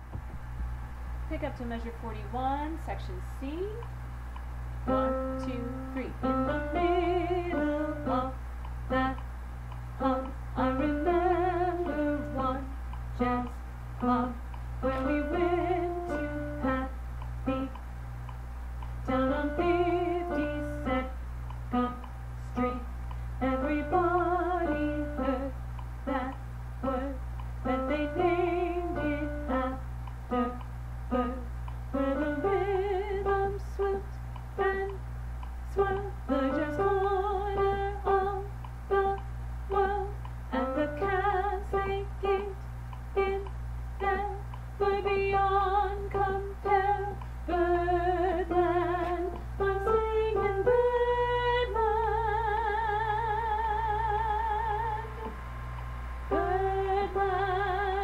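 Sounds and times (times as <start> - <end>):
low hum: 0.0 - 58.0
woman singing: 4.9 - 9.3, 10.0 - 17.8, 19.1 - 35.0, 35.7 - 42.6, 43.2 - 55.3, 56.3 - 58.0.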